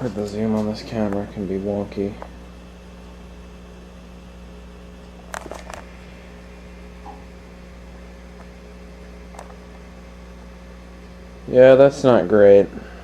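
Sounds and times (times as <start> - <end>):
low electrical hum and hiss: 0.0 - 13.0.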